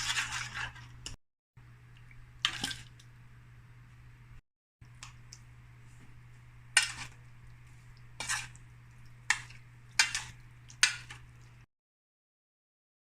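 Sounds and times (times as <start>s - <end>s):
low electrical hum: 0.0s - 11.7s.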